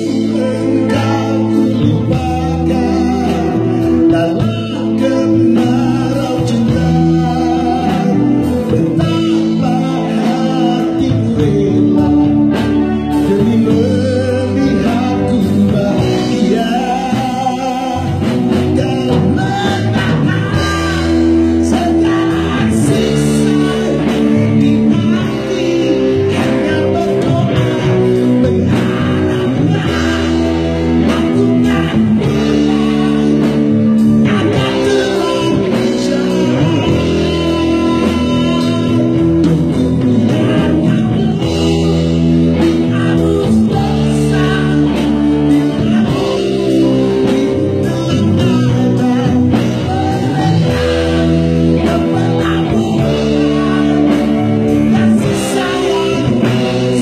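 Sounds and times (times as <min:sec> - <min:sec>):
drum kit: 0:00.0 - 0:57.0
electric guitar: 0:00.0 - 0:57.0
man singing: 0:00.0 - 0:57.0.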